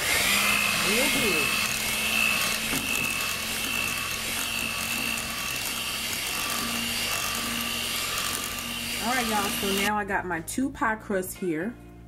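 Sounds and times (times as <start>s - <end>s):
electric hand mixer whining: 0.0s - 9.9s.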